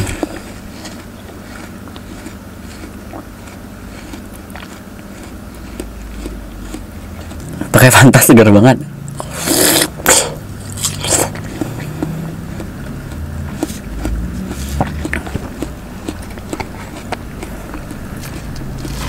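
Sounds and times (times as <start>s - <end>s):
chewing with small clicks: 0.0s - 7.7s, 10.6s - 19.0s
person biting watermelon: 0.0s - 8.0s, 9.1s - 19.0s.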